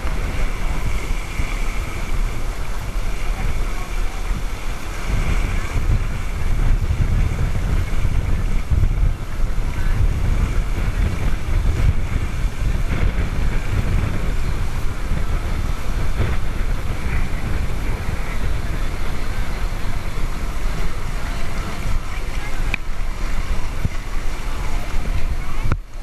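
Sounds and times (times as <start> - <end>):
water rushing past hull: 0.0 - 26.0
wind buffeting microphone: 0.0 - 26.0.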